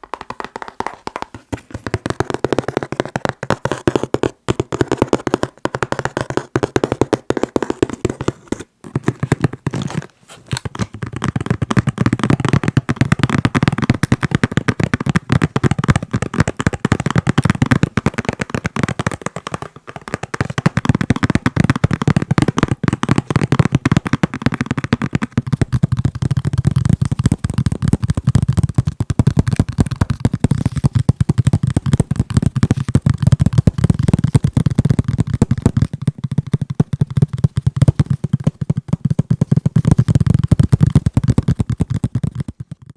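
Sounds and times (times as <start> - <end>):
fingers tapping on a box: 0.0 - 10.0, 10.6 - 42.9.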